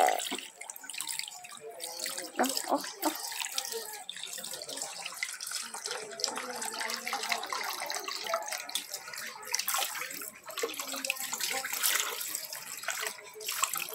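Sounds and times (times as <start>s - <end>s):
water sloshing in a plastic basin: 0.0s - 13.9s.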